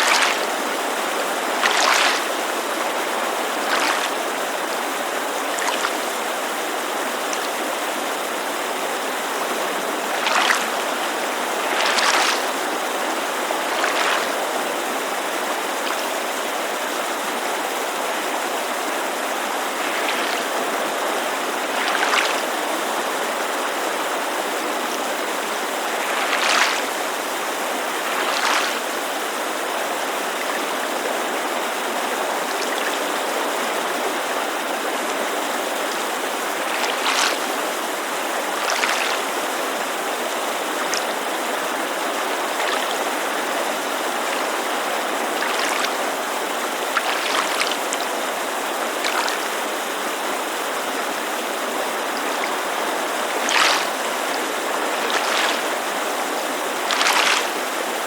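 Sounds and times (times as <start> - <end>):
creek water rushing: 0.0 - 58.0
small water splashes: 0.0 - 58.0
water lapping at shore: 0.0 - 58.0.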